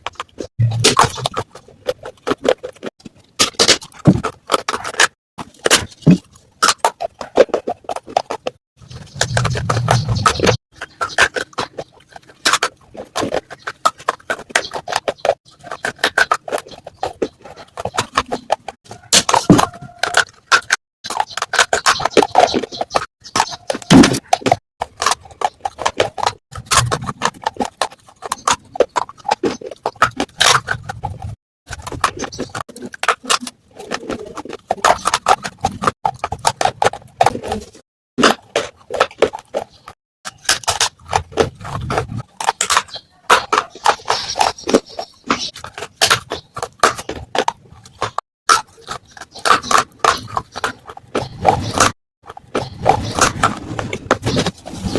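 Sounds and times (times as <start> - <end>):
clay pot pieces crunching: 0.0 - 54.9.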